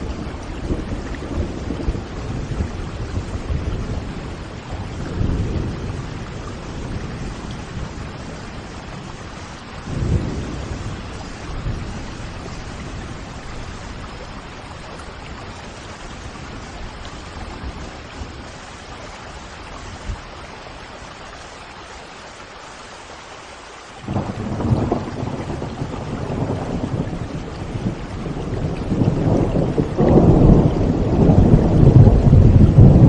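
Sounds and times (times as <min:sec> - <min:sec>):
thunder rumbling: 0:00.0 - 0:20.3, 0:24.0 - 0:33.0
steady rain: 0:00.0 - 0:33.0.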